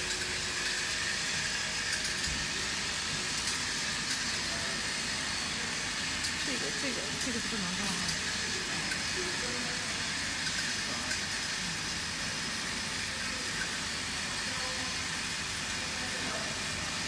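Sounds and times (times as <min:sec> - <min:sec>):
machinery hum and hiss: 0:00.0 - 0:17.0.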